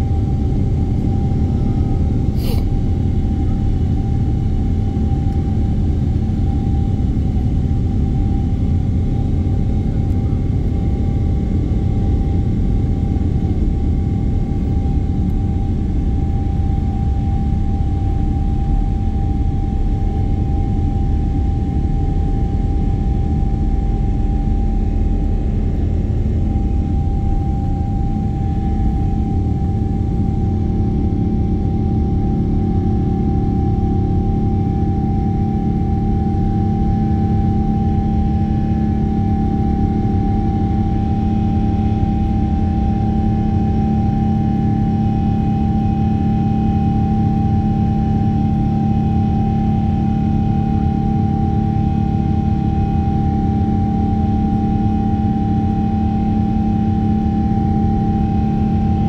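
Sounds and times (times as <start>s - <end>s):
high engine whine: 0.0s - 59.0s
jet engine rumble: 0.0s - 59.0s.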